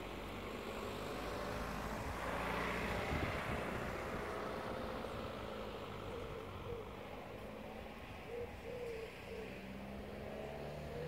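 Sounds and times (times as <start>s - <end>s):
passing vehicle engine: 0.0s - 11.0s.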